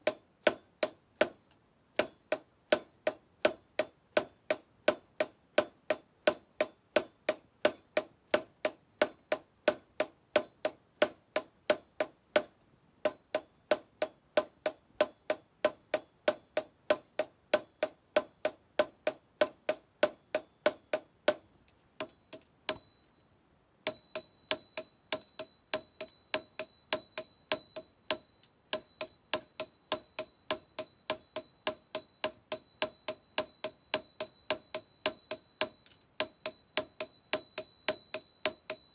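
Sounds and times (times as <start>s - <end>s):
hammer striking metal on anvil: 0.0s - 2.9s, 4.2s - 7.8s, 8.4s - 12.5s, 13.1s - 23.2s, 23.9s - 38.9s.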